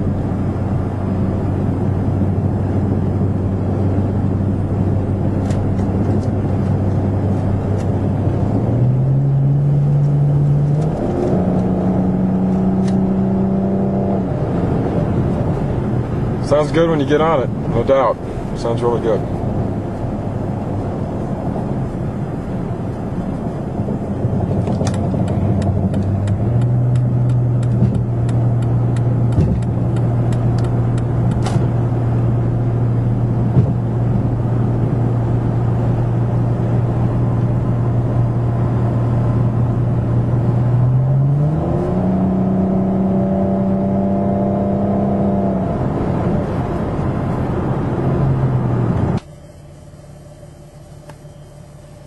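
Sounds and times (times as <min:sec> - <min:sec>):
car exhaust drone: 0:00.0 - 0:52.0.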